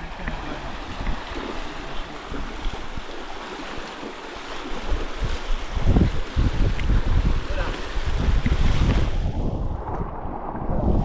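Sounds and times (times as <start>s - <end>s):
river water rushing: 0.0s - 9.4s
wind rumbling on microphone: 0.0s - 11.0s.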